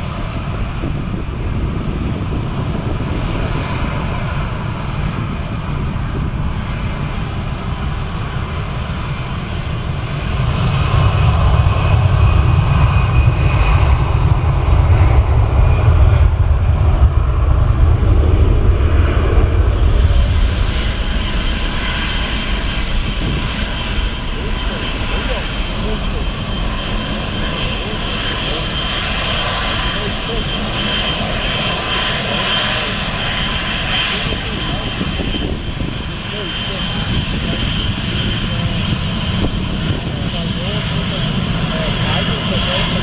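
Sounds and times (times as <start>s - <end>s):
jet engines rumbling with whine: 0.0s - 43.0s.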